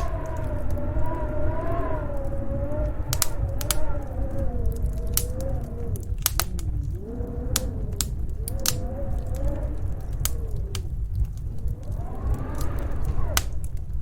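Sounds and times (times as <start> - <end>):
low rumble: 0.0 - 14.0
wind howling: 0.0 - 14.0
wood fire crackling: 0.0 - 14.0.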